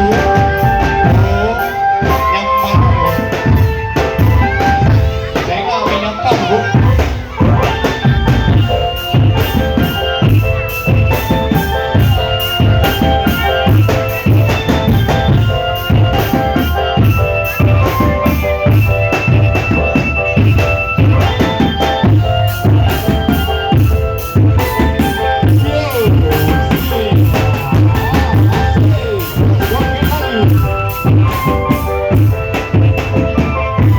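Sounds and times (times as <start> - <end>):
melody of held notes: 0.0 - 33.9
rapid drum beats: 0.0 - 33.9.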